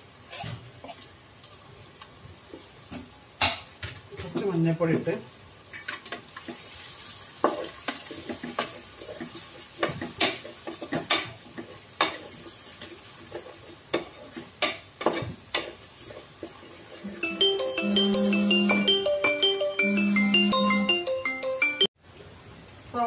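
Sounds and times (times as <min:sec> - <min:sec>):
faint frying sizzle: 0:00.0 - 0:18.8, 0:22.0 - 0:23.0.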